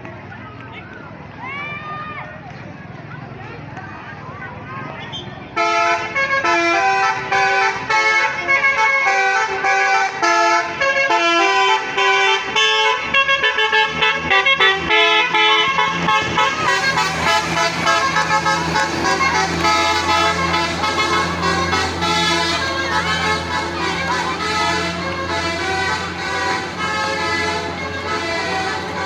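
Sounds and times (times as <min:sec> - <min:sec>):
bus multi-tone horn tune: 0:05.0 - 0:29.0
deep steady drone: 0:05.6 - 0:29.0.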